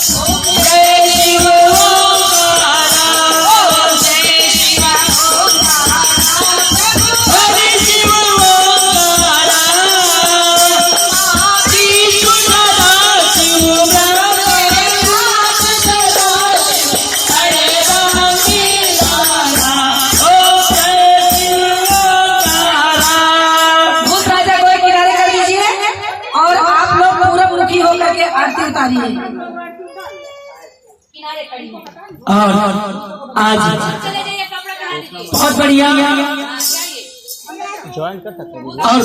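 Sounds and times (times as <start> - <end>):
quick percussion beat: 0.0 - 28.2, 33.8 - 39.0.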